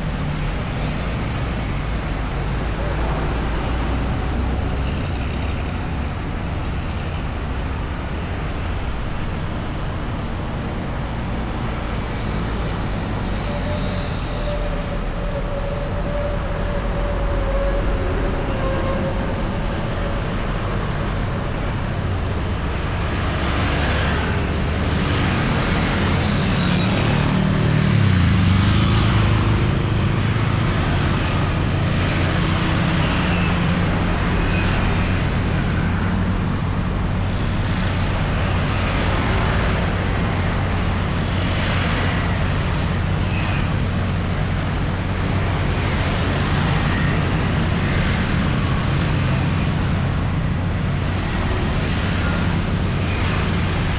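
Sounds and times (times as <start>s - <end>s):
road traffic passing: 0.0s - 53.9s.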